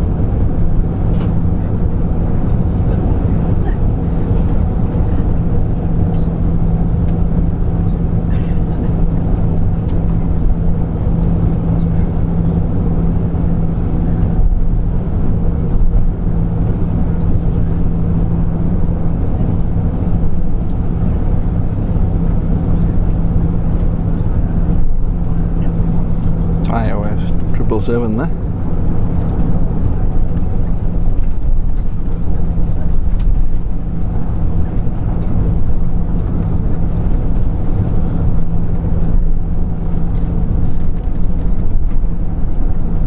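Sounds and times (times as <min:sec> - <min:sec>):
constant low hum: 0:00.0 - 0:43.0
jet engines droning: 0:00.0 - 0:43.0.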